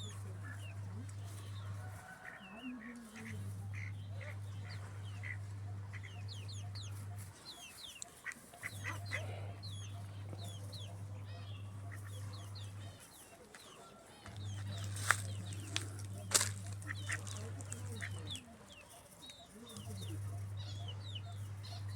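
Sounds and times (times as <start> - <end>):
steady low hum: 0.0 - 13.5, 14.1 - 21.9
chickens clucking: 0.0 - 21.9
chicks peeping: 0.0 - 21.9.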